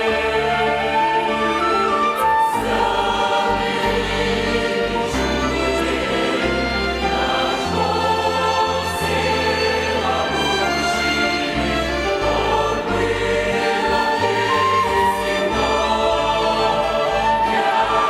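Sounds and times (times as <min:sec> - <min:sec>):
choir singing a hymn: 0:00.0 - 0:18.0
violin ensemble: 0:00.0 - 0:18.0.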